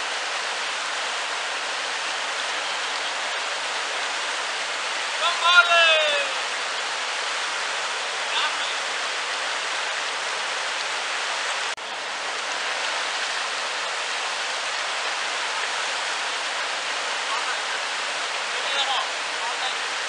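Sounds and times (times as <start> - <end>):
river rapids rushing over rock: 0.0 - 20.0.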